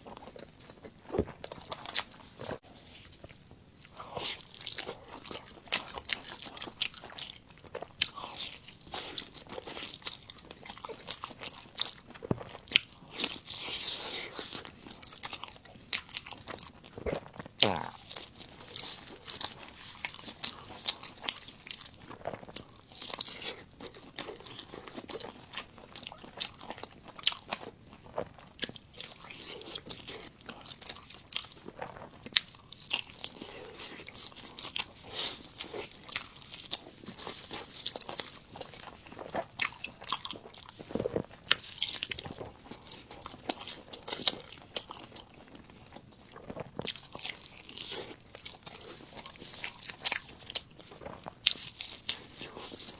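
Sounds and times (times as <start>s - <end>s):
chewing with wet mouth clicks: 3.2s - 52.9s.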